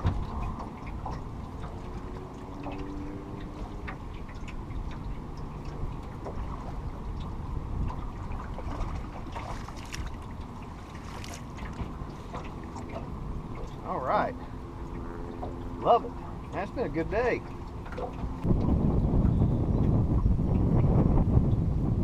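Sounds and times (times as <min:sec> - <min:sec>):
water rumbling against hull: 0:00.0 - 0:22.0.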